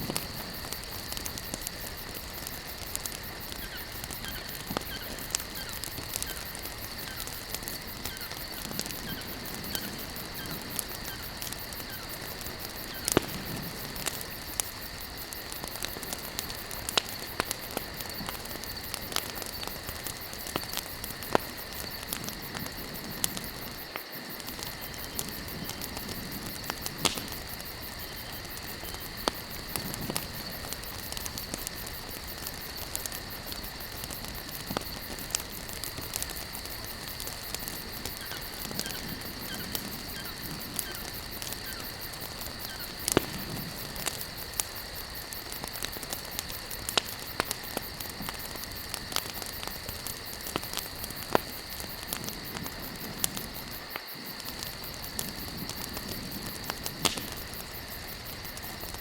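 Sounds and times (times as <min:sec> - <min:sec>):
wood campfire crackling: 0:00.0 - 0:59.0.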